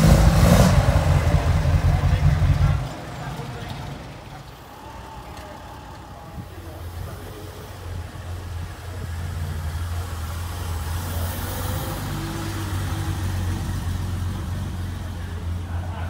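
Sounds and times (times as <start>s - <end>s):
car engine passing slowly: 0.0s - 16.0s.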